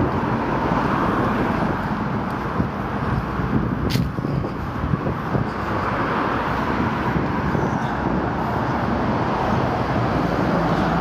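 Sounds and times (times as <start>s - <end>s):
distant road traffic rush: 0.0s - 11.0s.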